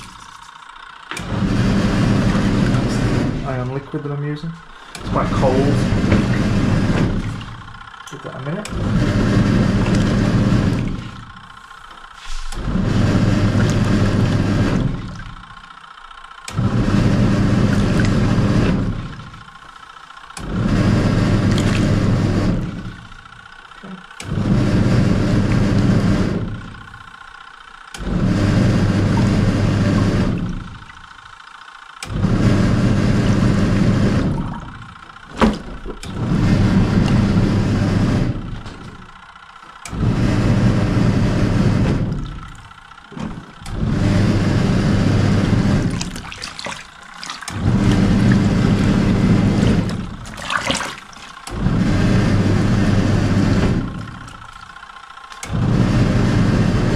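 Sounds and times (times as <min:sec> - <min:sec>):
water and load churning: 0:00.0 - 0:27.2, 0:27.9 - 0:56.9
washing machine agitating: 0:00.0 - 0:56.9.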